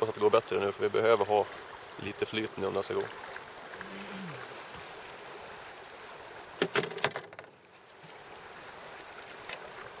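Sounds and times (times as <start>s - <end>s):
river: 0.0s - 10.0s
wind: 0.0s - 10.0s.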